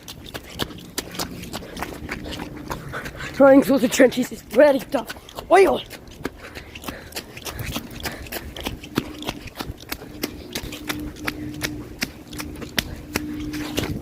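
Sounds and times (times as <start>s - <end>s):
footsteps running through mud: 0.0s - 14.0s.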